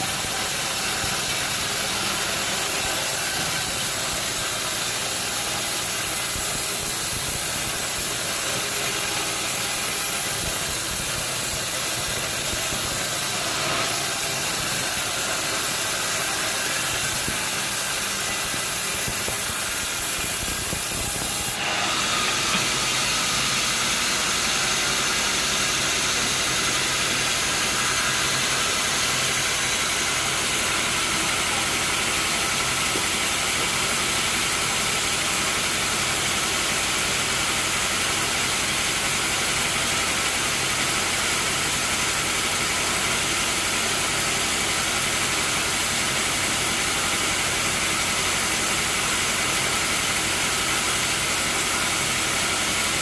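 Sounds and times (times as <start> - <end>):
sawmill machine hissing: 0.0 - 53.0.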